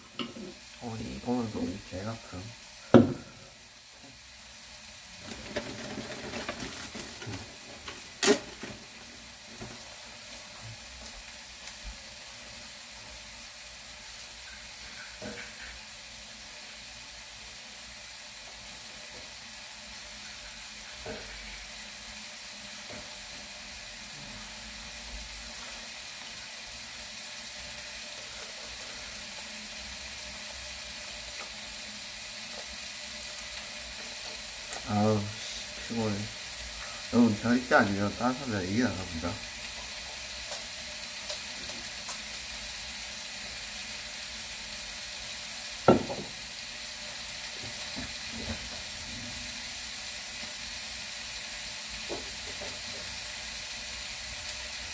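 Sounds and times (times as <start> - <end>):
pork sizzling: 0.0 - 54.9.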